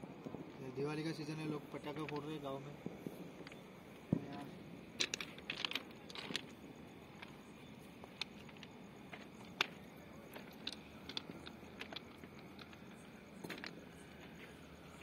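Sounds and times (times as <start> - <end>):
distant firecrackers popping: 0.0 - 15.0.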